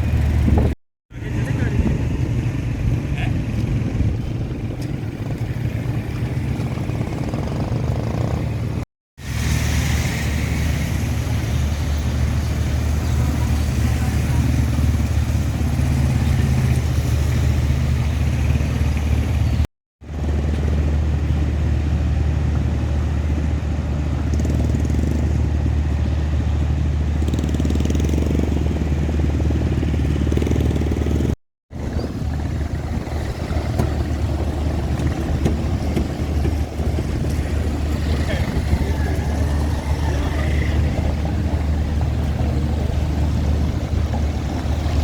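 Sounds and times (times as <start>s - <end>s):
engine humming close by: 0.0s - 45.0s
traffic noise: 0.0s - 45.0s.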